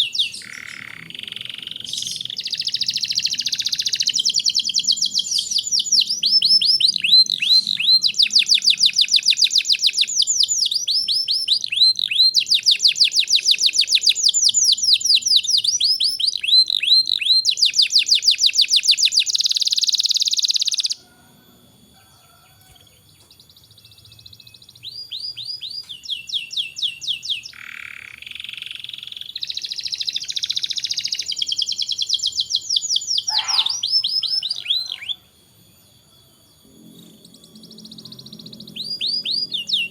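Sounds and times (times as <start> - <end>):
canary singing trills: 0.0 - 21.0, 23.0 - 39.9.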